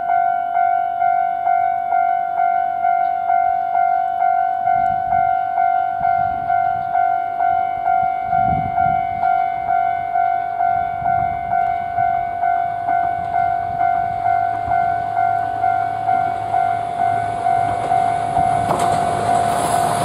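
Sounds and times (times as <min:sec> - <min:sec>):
level crossing bell clanging: 0:00.0 - 0:20.0
railcar engine rumble: 0:00.0 - 0:20.0.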